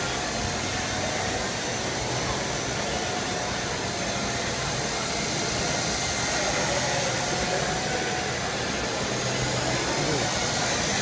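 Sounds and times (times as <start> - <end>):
indoor hall background noise: 0.0 - 11.0
quadcopter whirring: 0.0 - 11.0.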